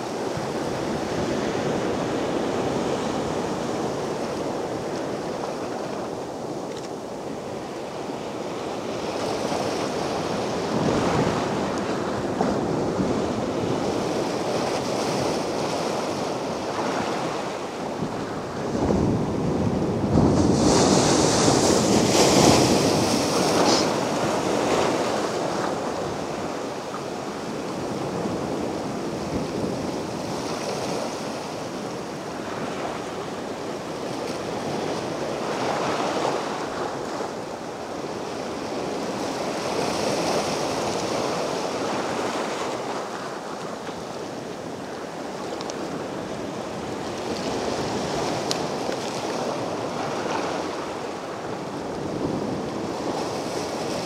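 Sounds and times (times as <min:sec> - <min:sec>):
waves breaking on a beach: 0:00.0 - 0:54.0.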